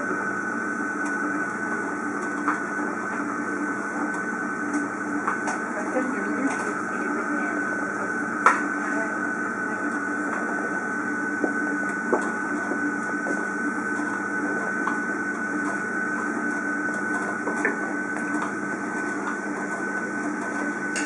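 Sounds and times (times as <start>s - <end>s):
machine hum with high whine: 0.0s - 21.0s.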